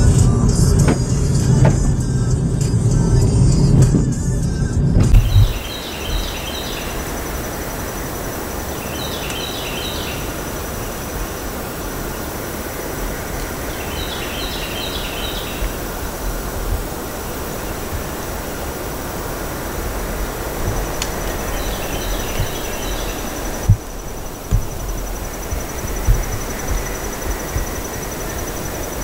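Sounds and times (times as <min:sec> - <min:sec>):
car running: 0:00.0 - 0:14.6, 0:15.5 - 0:29.0
steady rushing hiss: 0:00.0 - 0:29.0.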